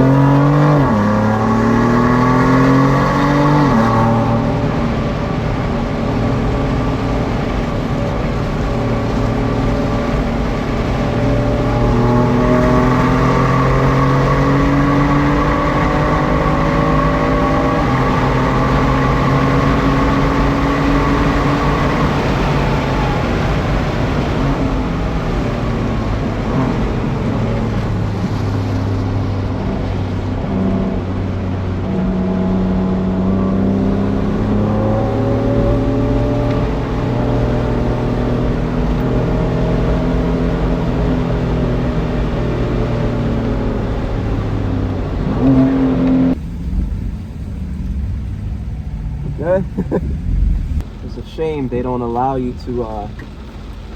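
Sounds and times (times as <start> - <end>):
car engine running under load: 0.0 - 53.9
rain and wet road noise: 0.0 - 53.9.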